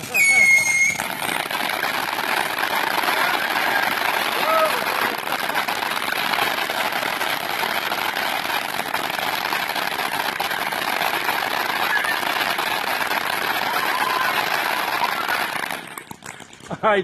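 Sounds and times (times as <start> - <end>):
firework crackling: 0.0 - 17.0.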